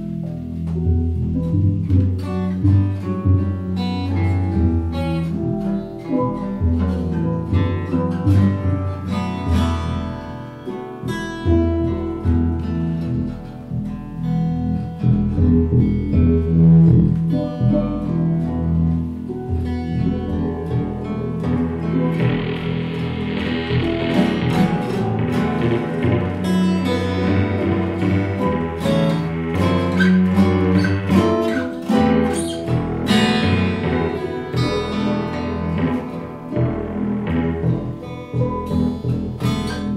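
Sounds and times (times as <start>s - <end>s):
low bass notes: 0.0s - 39.9s
plucked acoustic guitar: 0.0s - 39.9s.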